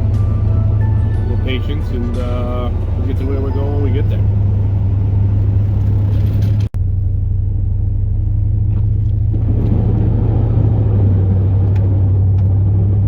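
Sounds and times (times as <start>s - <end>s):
road noise: 0.0s - 13.0s
truck engine droning: 0.0s - 13.0s.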